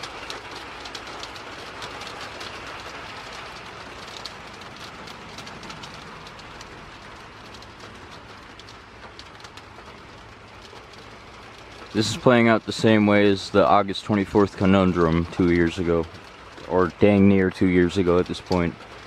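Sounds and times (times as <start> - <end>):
raindrops ticking on surfaces: 0.0 - 19.0
steady rain falling: 0.0 - 19.0.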